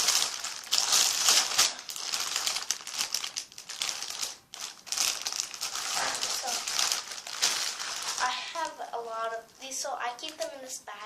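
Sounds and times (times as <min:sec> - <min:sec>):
bag of toys rustling and crinkling: 0:00.0 - 0:09.1.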